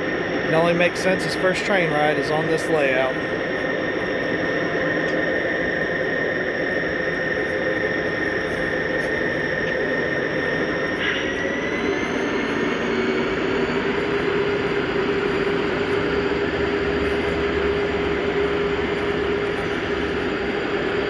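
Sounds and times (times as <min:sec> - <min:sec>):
locomotive motor whine: 0:00.0 - 0:21.0
wheels on rails: 0:00.0 - 0:21.0.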